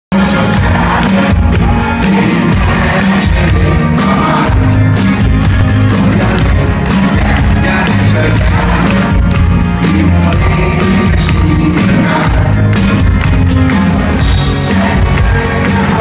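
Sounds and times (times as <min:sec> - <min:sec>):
bass guitar: 0:00.1 - 0:16.0
drum kit: 0:00.1 - 0:16.0
electric guitars: 0:00.1 - 0:16.0
person singing: 0:00.1 - 0:16.0.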